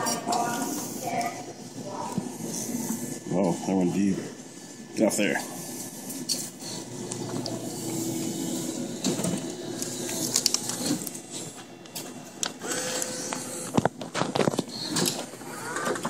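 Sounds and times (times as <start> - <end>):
claw machine motors whirring: 0.0 - 16.0.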